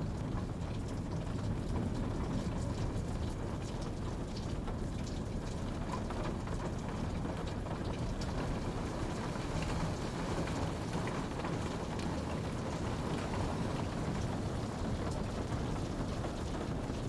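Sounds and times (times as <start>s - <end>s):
steady rain hiss: 0.0s - 17.0s
raindrops ticking: 0.1s - 17.0s.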